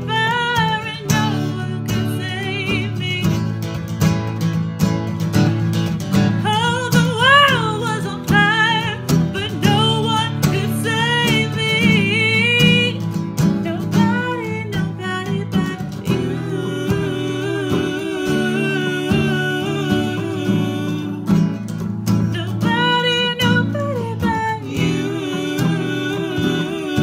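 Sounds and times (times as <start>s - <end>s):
woman singing: 0.0s - 3.6s, 6.4s - 27.0s
acoustic guitars strumming: 0.0s - 27.0s.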